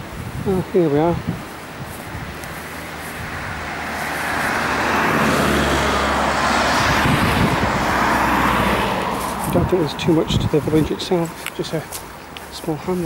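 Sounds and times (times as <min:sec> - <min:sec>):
cars driving past: 0:01.4 - 0:13.0.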